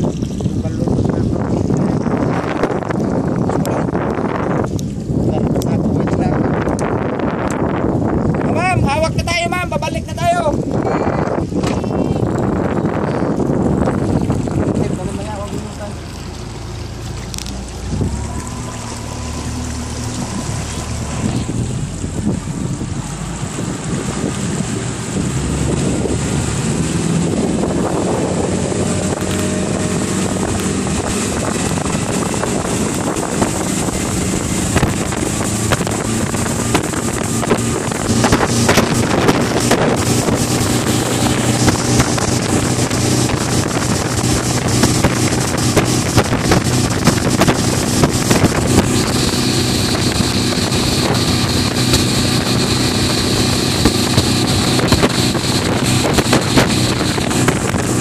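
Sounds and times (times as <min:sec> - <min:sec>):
motorboat engine running: 0:00.0 - 0:58.0
water rushing: 0:00.0 - 0:58.0
wind buffeting microphone: 0:00.0 - 0:58.0.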